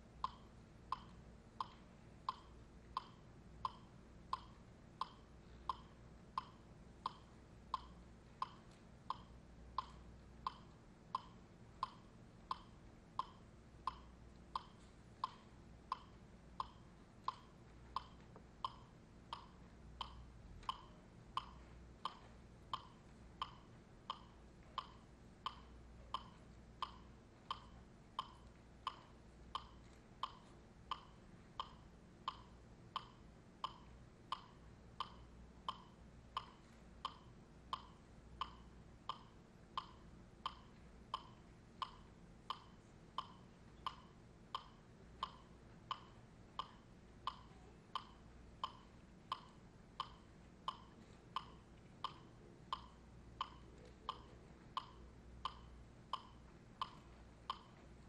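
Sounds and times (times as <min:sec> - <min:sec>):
faint low hum: 0:00.0 - 0:58.0
sharp clicks keeping a beat: 0:00.0 - 0:58.0.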